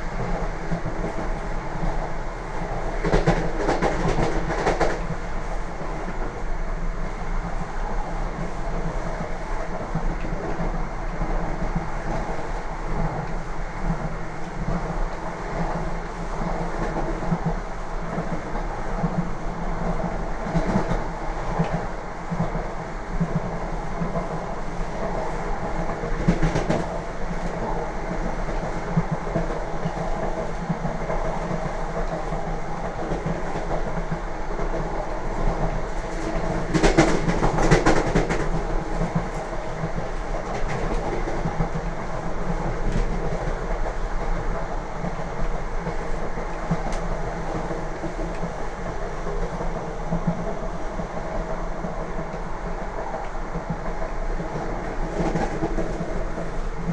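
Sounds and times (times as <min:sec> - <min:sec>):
train wheels clattering over rails: 0:02.6 - 0:06.4, 0:12.1 - 0:56.9.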